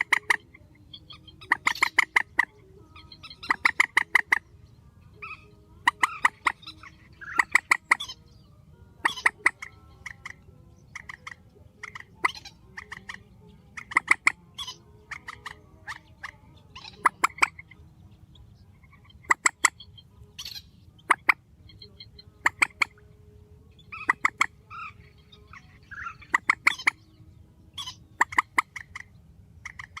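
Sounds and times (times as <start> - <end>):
swamphen calling: 0.0 - 23.1, 23.7 - 30.0.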